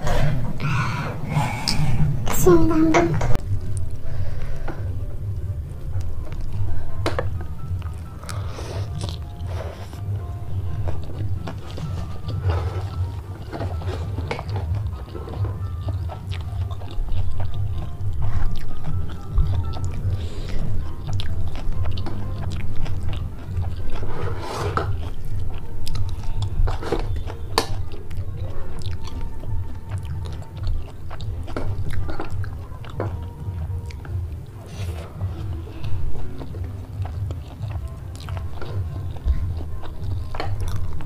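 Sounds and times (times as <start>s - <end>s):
soft background music: 0.0s - 41.0s
chewing and mouth clicks: 5.3s - 41.0s.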